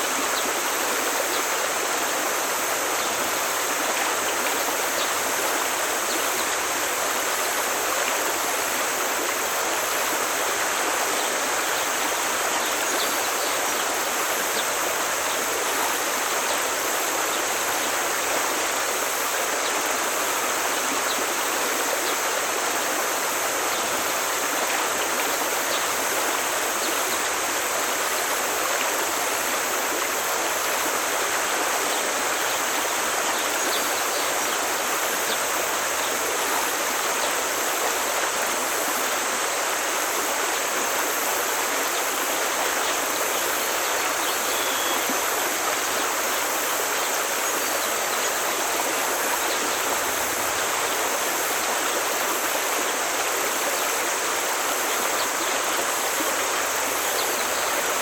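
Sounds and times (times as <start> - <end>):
brook flowing: 0.0 - 58.0.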